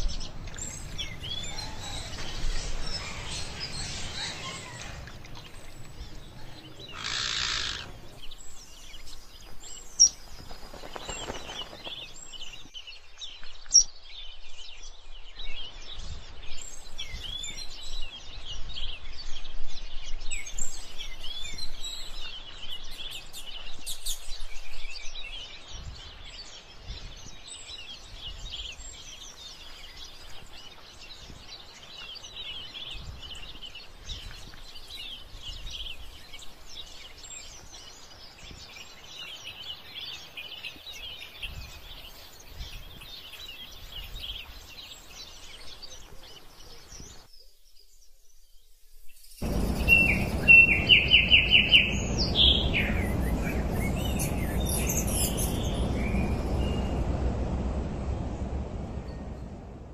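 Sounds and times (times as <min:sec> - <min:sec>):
small birds chirping: 0:00.0 - 0:19.1, 0:20.1 - 0:59.9.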